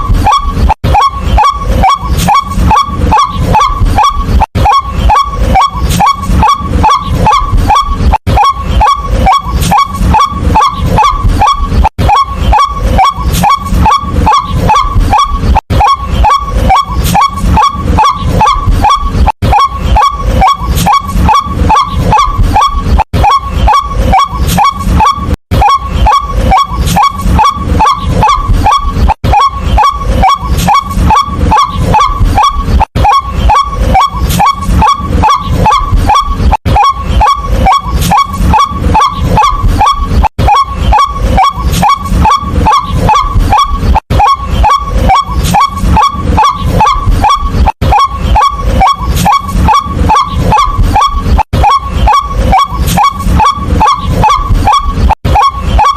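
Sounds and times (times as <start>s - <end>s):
bird calling rapid kwak notes: 0.0s - 55.9s.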